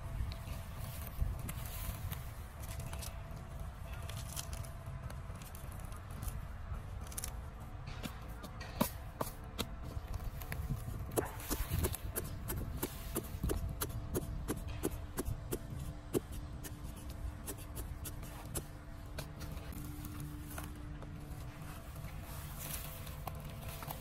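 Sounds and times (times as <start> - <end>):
hands handling dry soil and leaves: 0.0 - 24.0.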